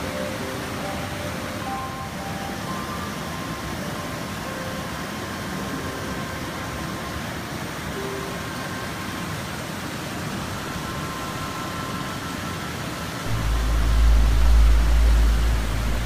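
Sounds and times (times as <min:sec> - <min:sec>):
waterfall pouring into a pool: 0:00.0 - 0:16.0.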